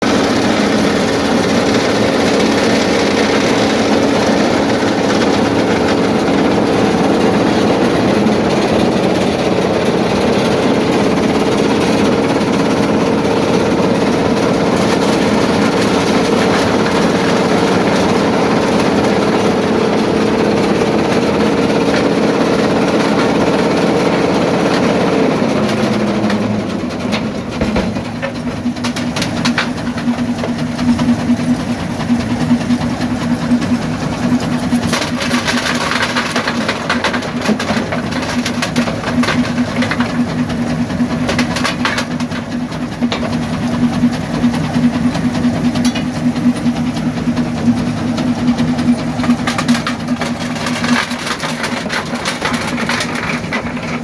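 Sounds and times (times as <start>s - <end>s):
crusher rumble and clatter: 0.0s - 54.0s
engine drone: 0.0s - 54.0s.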